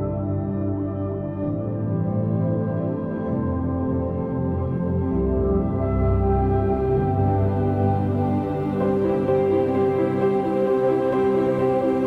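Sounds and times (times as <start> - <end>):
soft ambient synthesizer music: 0.0 - 12.0.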